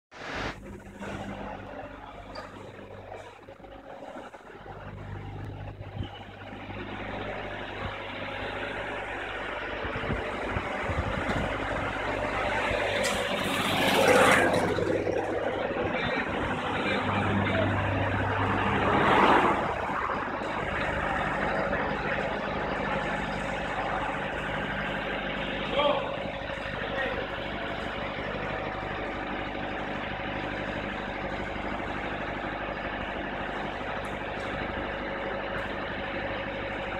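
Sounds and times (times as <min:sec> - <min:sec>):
heavy engine humming: 0:00.1 - 0:36.9.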